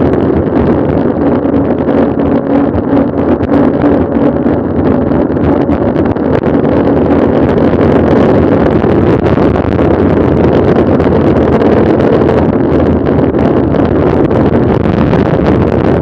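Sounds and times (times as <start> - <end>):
low rumble of bike ride: 0.0 - 16.0
wind buffeting microphone: 0.0 - 16.0.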